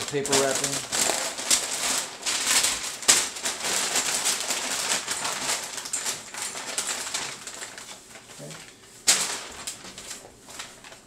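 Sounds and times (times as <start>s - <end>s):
paper crumpling and rustling: 0.0s - 11.0s
sharp paper crack: 0.0s - 11.0s.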